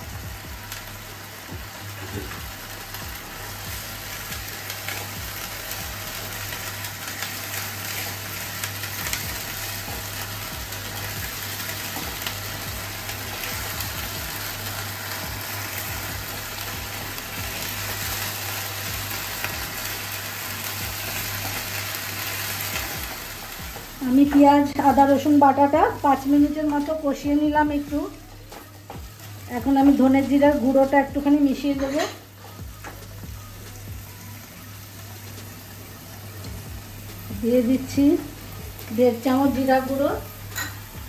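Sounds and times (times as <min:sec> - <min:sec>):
paste sizzling in oil: 0:00.0 - 0:41.0.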